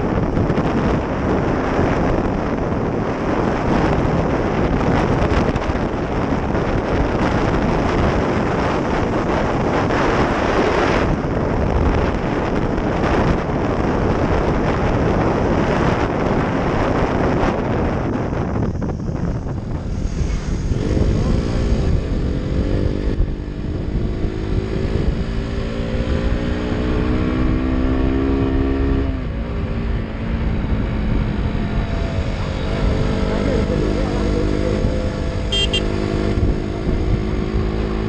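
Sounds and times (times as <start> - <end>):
motorcycle engine and road noise: 0.0 - 38.0
wind rushing over microphone: 0.0 - 38.0.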